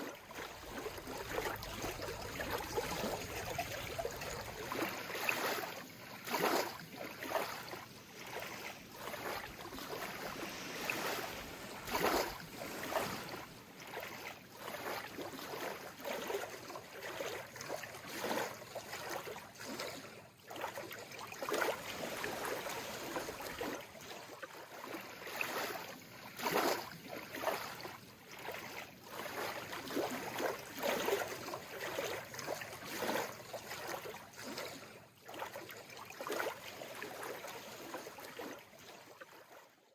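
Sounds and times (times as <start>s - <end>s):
sea water lapping gently: 0.0s - 39.9s.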